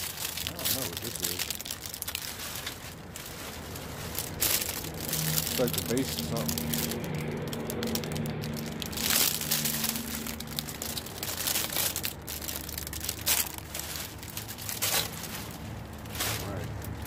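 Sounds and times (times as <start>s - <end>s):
low steady hum: 0.0s - 17.0s
plastic bags rustling and crinkling: 0.0s - 17.0s.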